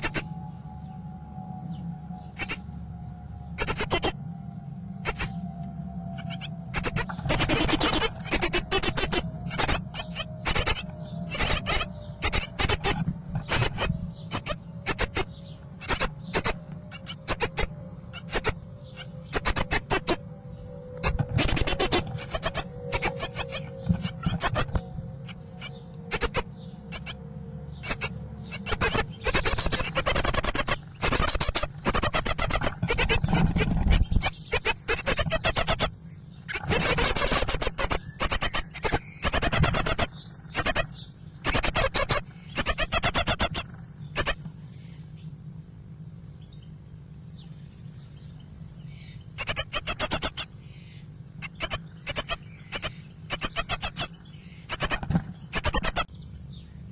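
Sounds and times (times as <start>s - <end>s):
nestlings chirping and begging: 0.0s - 56.9s.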